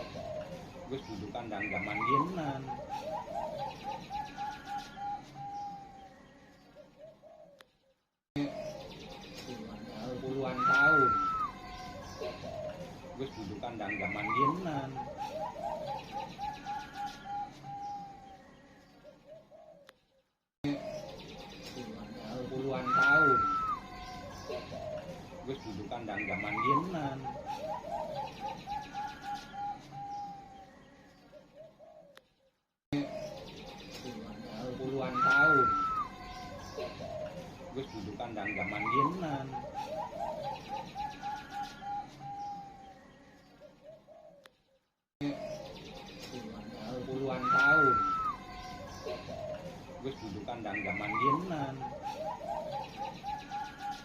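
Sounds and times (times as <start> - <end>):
dove cooing: 0.0 - 7.6, 8.4 - 19.9, 20.7 - 32.2, 33.0 - 44.5, 45.2 - 54.0.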